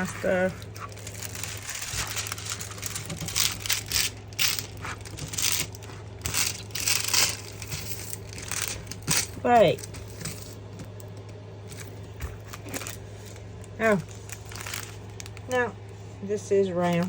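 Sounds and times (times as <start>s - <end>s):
packaging crinkling and rustling: 0.0s - 16.0s, 16.7s - 17.0s
low hum: 0.0s - 17.0s.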